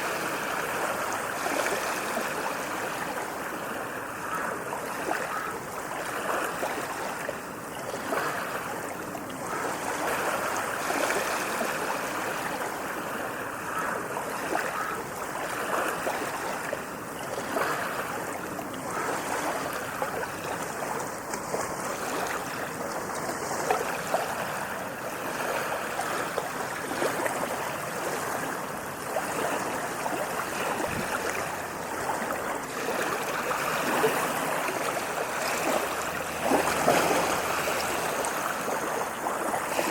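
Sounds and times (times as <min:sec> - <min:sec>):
ocean waves on sandy beach: 0:00.0 - 0:39.9.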